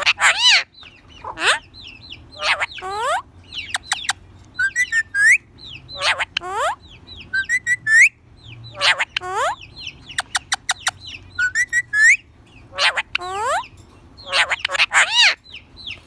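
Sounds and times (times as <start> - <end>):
parakeet calling and whistling: 0.0 - 16.0.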